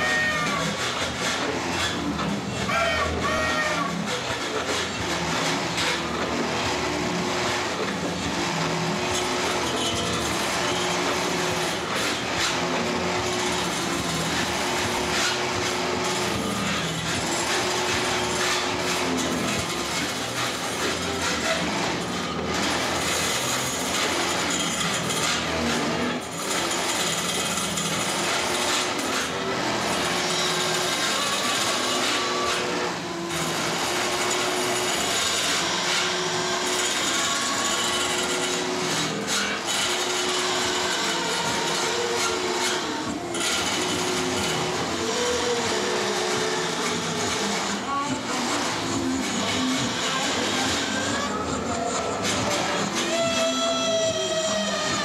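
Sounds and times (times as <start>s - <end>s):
motor-like appliance noise: 0.0s - 55.0s.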